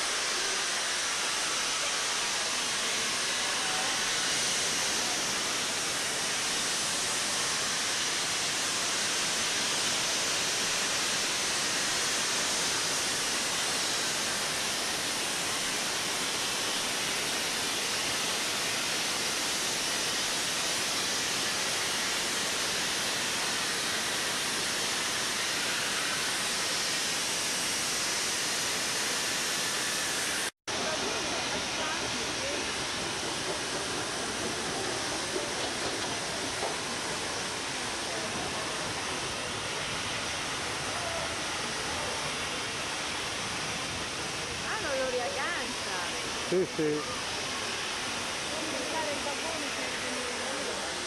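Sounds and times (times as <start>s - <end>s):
steam locomotive hissing steam: 0.0s - 51.0s.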